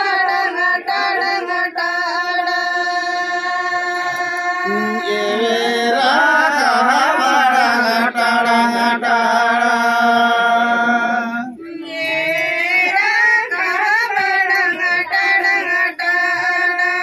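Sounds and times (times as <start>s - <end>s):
men singing together: 0.0s - 17.0s.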